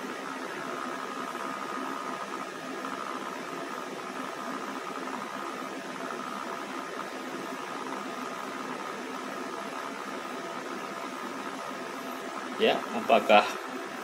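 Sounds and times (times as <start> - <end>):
model turntable motor whine: 0.0 - 14.0.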